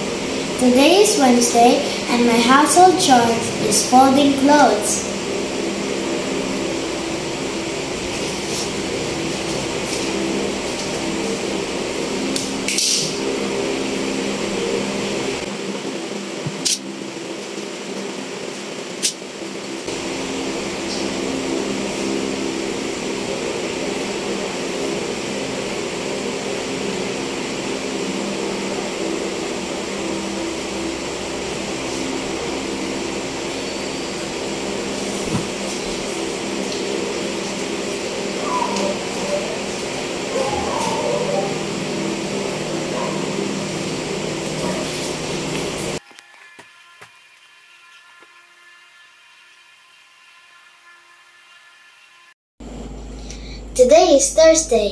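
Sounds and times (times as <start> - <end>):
steady machine hum: 0.0 - 49.2, 52.6 - 54.9.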